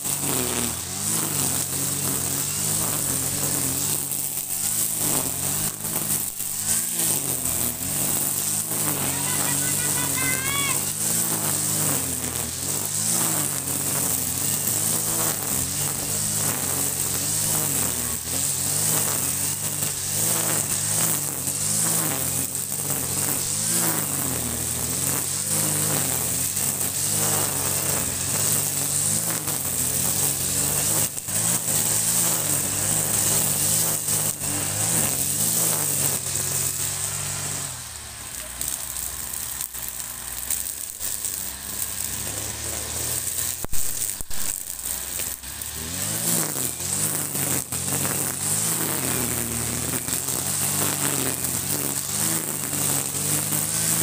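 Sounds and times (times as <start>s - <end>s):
brush cutter running: 0.0s - 54.0s.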